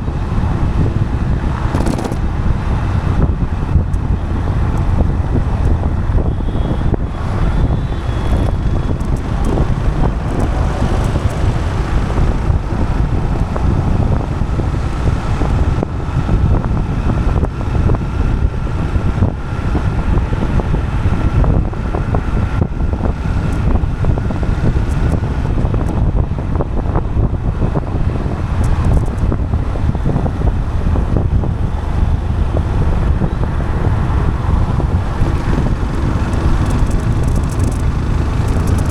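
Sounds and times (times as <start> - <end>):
low road rumble: 0.0 - 38.9
wind buffeting microphone: 0.0 - 38.9.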